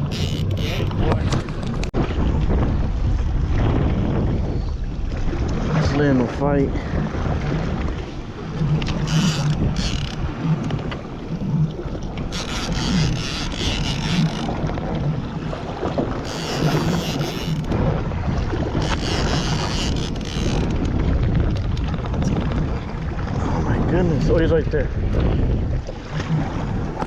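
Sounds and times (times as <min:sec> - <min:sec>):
boat motor running: 0:00.0 - 0:02.0, 0:06.2 - 0:27.0
wind buffeting microphone: 0:00.0 - 0:27.0.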